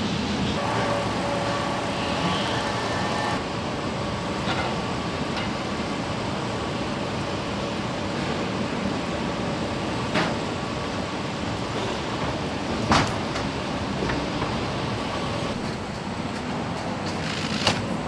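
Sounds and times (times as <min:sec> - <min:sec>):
machinery hum: 0:00.0 - 0:18.0.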